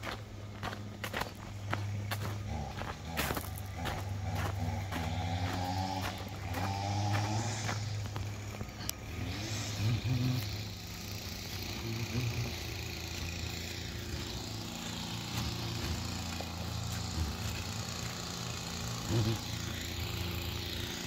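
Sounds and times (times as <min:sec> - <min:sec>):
lawn mower cutting grass: 0:00.0 - 0:21.0.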